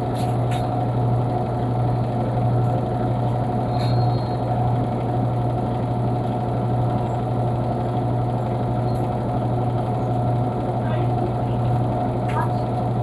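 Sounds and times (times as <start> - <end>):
low mechanical hum with whirring: 0.0 - 13.0.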